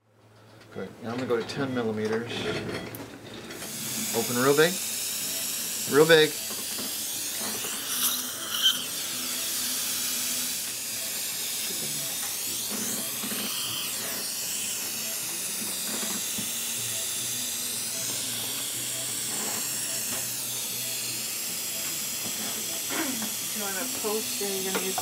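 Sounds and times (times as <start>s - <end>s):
dental drill humming: 3.6s - 25.0s
dental suction hiss: 3.7s - 25.0s.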